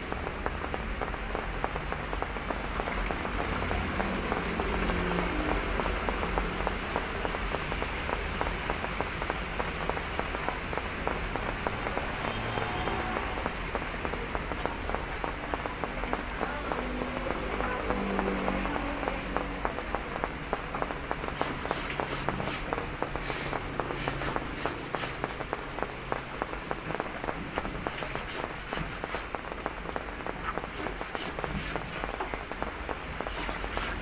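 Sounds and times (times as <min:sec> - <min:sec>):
heavy rain on roof and ground: 0:00.0 - 0:34.0.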